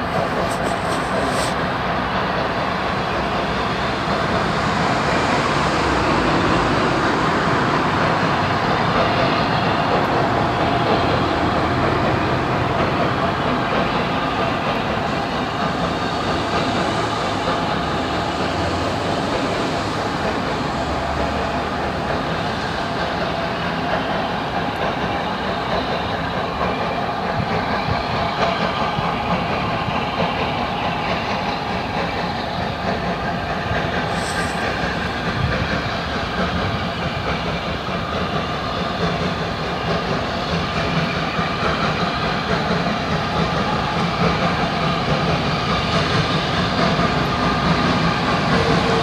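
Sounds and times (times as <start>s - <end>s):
steam hissing: 0.0s - 49.0s
steam locomotive working: 0.0s - 49.0s.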